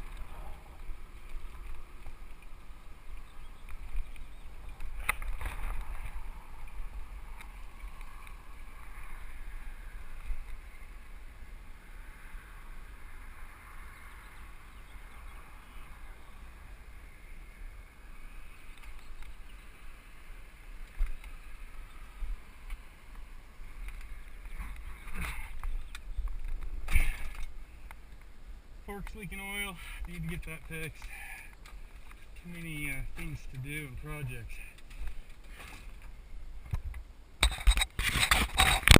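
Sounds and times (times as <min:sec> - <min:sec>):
wind rumble on camera: 0:00.0 - 0:28.9, 0:31.3 - 0:38.9
bike tyre noise: 0:00.0 - 0:38.9.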